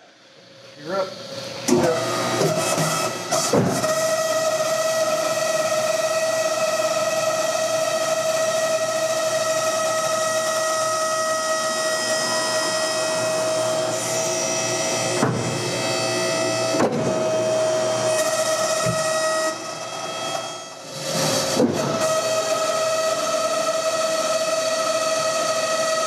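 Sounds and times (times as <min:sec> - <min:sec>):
hydraulic pump whine: 0:00.0 - 0:26.0.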